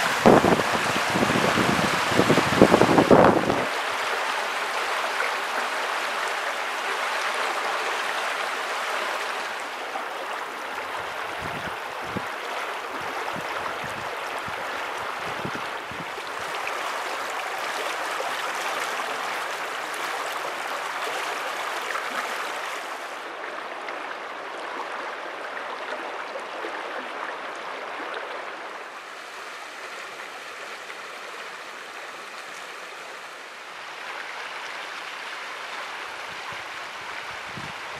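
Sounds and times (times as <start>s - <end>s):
river water babbling over stones: 0.0s - 37.9s.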